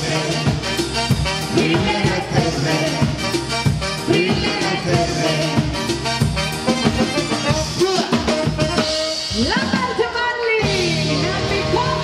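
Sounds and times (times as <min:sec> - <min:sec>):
drum kit beat: 0:00.0 - 0:12.0
live latin dance band: 0:00.0 - 0:12.0.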